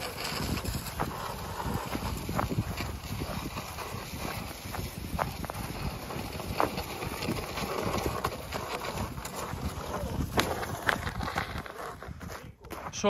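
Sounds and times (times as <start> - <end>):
horse hooves clopping: 0.0 - 13.0.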